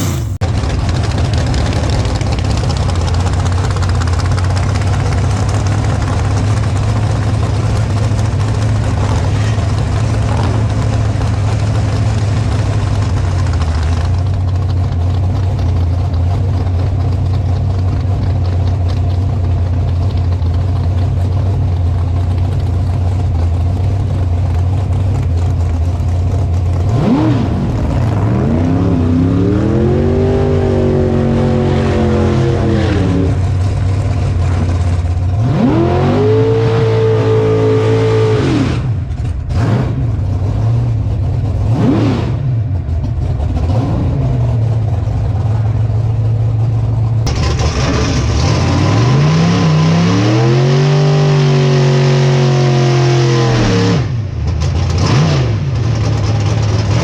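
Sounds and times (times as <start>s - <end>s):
race car engine revving: 0.0s - 18.4s, 19.9s - 57.0s.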